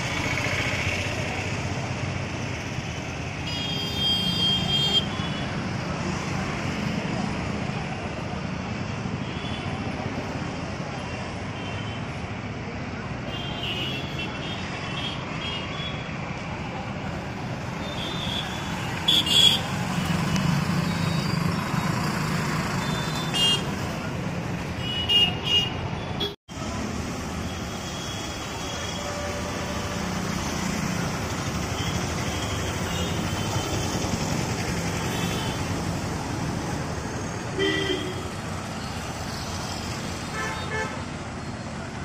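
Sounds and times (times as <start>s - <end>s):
vehicles passing: 0.0s - 42.0s.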